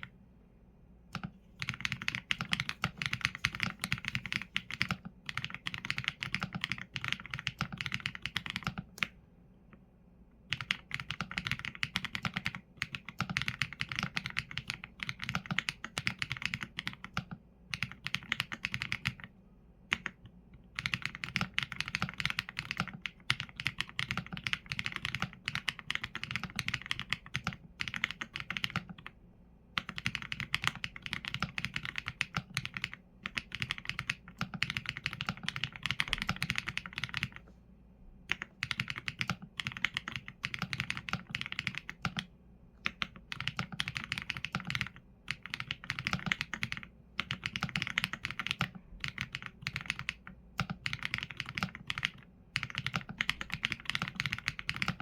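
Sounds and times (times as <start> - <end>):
typing on mechanical keyboard: 1.1 - 9.1, 10.5 - 19.3, 19.9 - 29.1, 29.8 - 37.4, 38.3 - 55.0.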